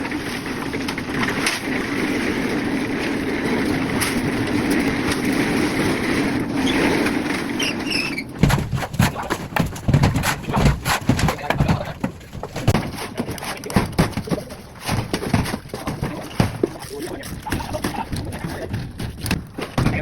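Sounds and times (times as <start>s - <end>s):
uneven knocks and thumps: 3.0s - 20.0s.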